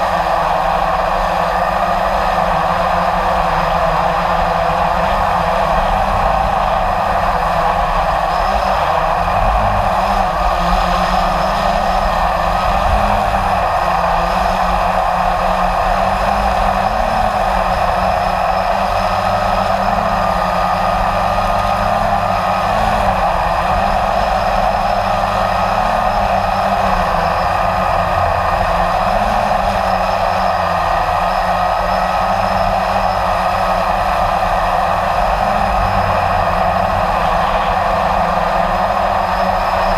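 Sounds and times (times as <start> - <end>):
quadcopter motors whirring: 0.0 - 39.9.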